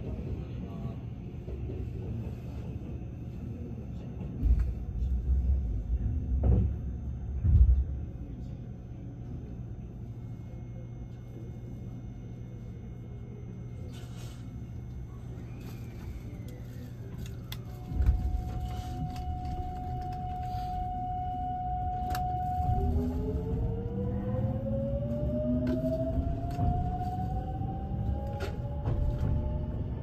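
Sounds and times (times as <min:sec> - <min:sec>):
train cabin hum: 0:00.0 - 0:30.0.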